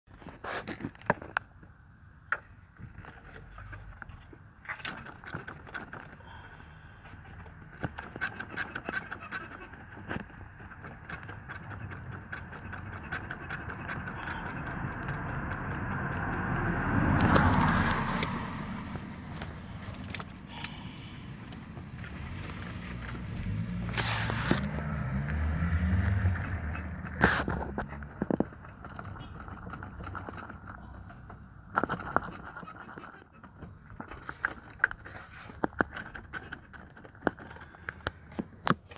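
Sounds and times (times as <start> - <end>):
car engine rumbling: 1.7 - 38.9
engine knocks and rattles: 2.4 - 38.9.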